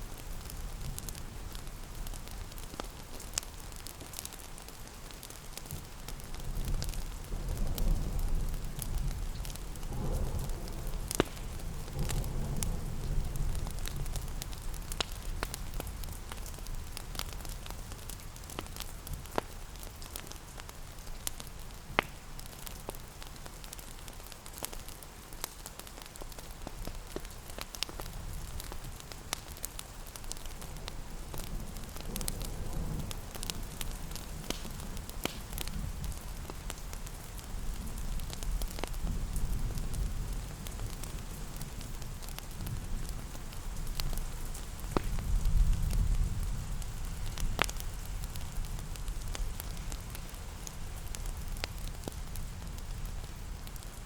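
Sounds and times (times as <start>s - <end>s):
fireplace crackling and popping: 0.0s - 54.0s
steady rain: 0.0s - 54.0s.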